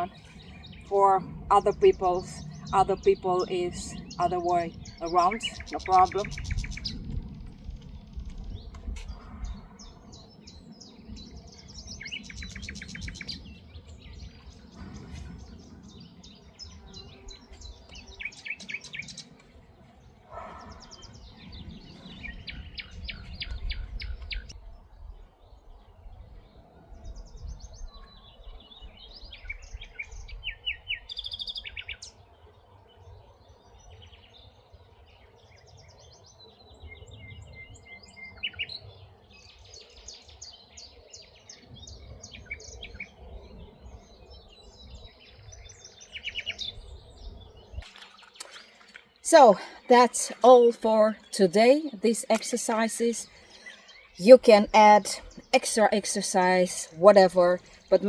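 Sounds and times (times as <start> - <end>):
wild birds chirping and singing: 0.0 - 58.0.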